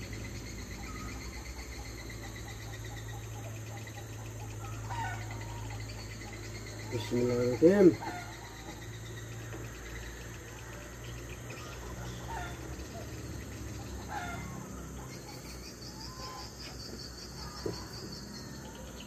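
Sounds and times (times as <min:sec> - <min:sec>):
bird chirps: 0:00.0 - 0:19.0
insects chirring: 0:00.0 - 0:19.0.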